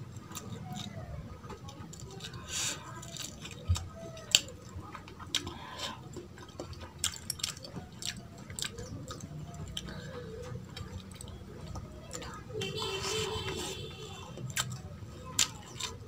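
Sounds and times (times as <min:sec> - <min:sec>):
person chewing food: 0:00.1 - 0:16.0.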